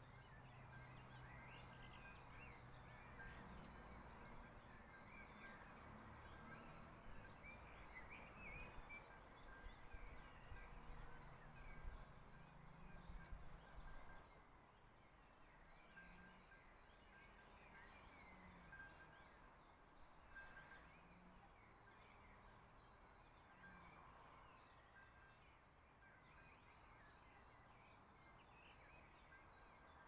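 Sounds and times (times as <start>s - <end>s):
songbird chirps: 0.0s - 30.0s.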